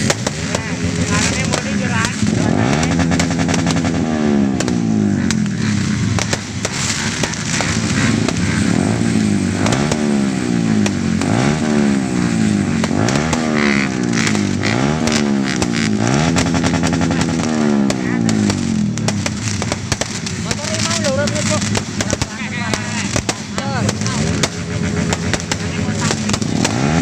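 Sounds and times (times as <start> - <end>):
motorcycle engines revving: 0.0 - 27.0
sharp cracks: 0.0 - 27.0.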